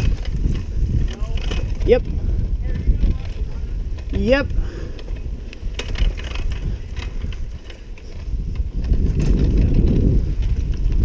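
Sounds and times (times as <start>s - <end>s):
bike clicks and rattles: 0.0s - 11.0s
rumble of wind and tyres: 0.0s - 11.0s.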